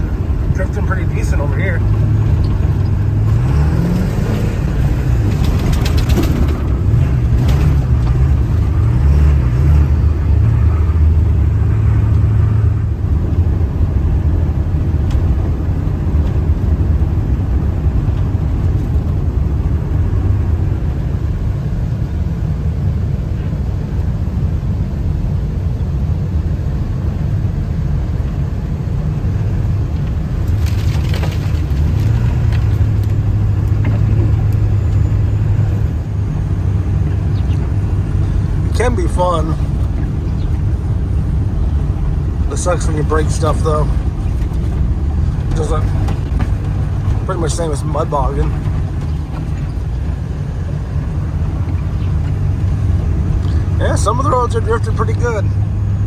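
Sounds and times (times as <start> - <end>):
diesel truck engine running: 0.0 - 56.0
road noise rumble: 0.0 - 56.0.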